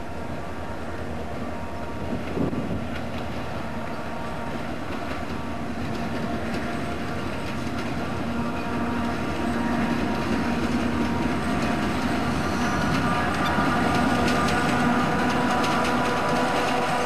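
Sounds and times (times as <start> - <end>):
diesel locomotive engines droning: 0.0 - 17.0
wheels clicking over rail joints: 2.0 - 17.0.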